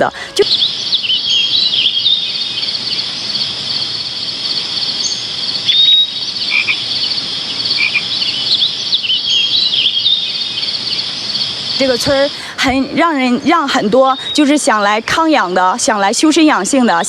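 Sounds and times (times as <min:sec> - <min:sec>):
chorus of frogs and insects: 0:00.0 - 0:17.0.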